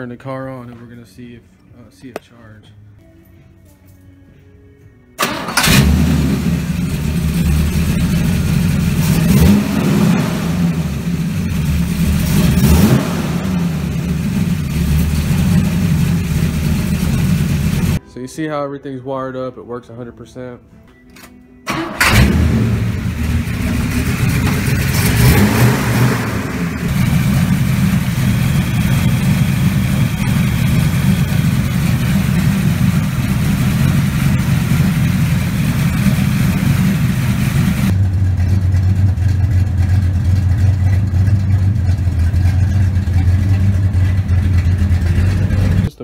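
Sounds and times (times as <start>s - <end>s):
car engine starting and running: 5.2s - 18.0s, 21.7s - 46.0s.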